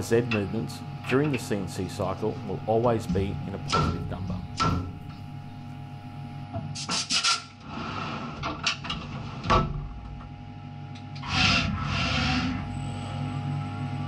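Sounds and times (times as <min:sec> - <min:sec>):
machine whine and hum: 0:00.0 - 0:14.0.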